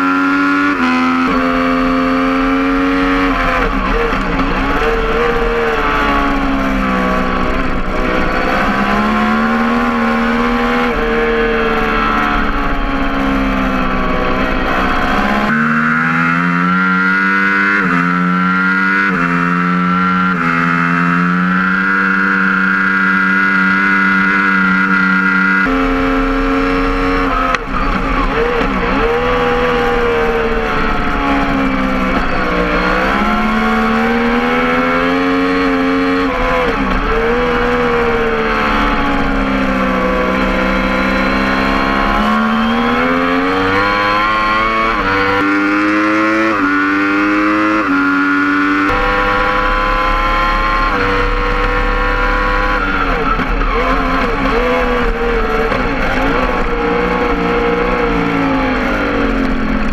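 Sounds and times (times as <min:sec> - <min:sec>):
motorcycle engine at race pace: 0:00.0 - 0:59.9.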